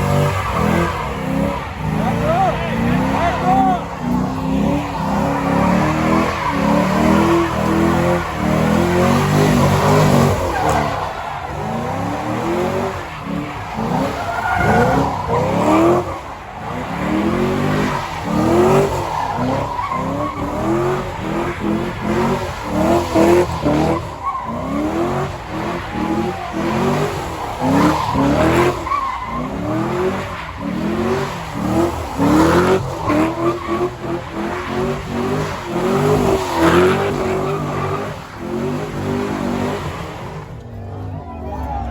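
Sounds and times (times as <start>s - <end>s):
car engine revving: 0.0s - 41.9s
tyres skidding and squealing: 0.0s - 41.9s.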